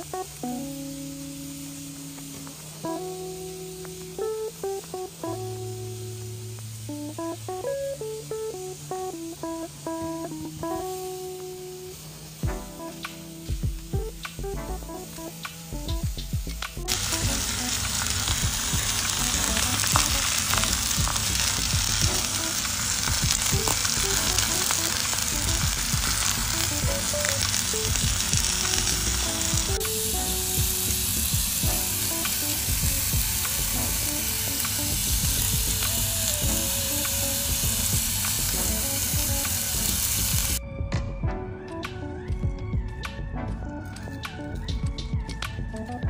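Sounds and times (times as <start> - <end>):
steak sizzling on grill pan: 0.0 - 14.1, 16.9 - 40.6.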